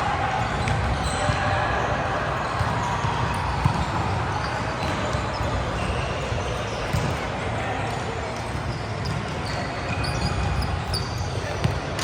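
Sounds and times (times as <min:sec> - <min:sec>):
echoing sports hall voices: 0:00.0 - 0:12.0.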